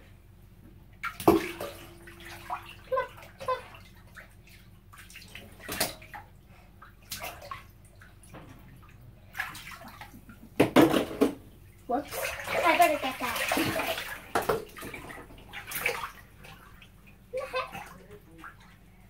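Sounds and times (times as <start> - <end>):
bath water sloshing and splashing: 0.0 - 19.0.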